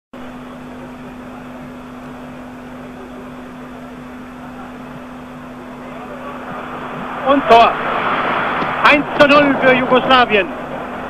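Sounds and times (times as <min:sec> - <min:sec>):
constant low hum: 0:00.2 - 0:11.0.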